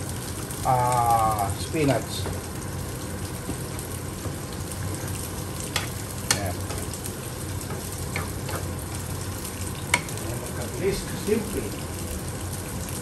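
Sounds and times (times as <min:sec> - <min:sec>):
spinach sizzling in frying pan: 0:00.0 - 0:13.0.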